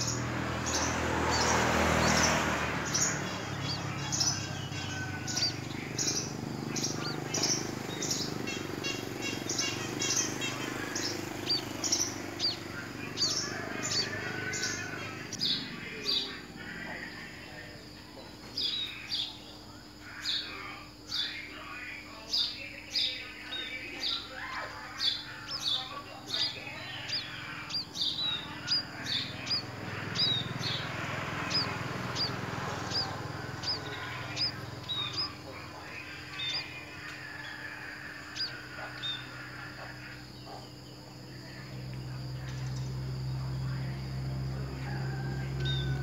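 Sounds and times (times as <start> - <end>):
small bird chirping: 0.0 - 46.0.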